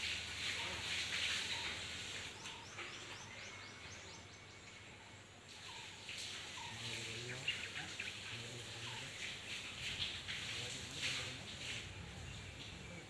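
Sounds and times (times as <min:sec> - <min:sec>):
small birds chirping: 0:00.0 - 0:13.0
soft hiss: 0:00.0 - 0:13.0.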